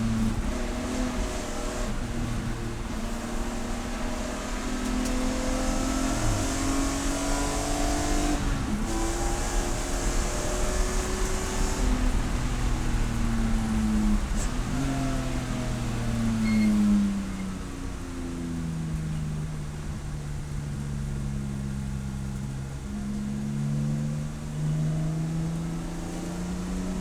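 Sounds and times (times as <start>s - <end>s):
race car engine running hard: 0.0s - 27.0s.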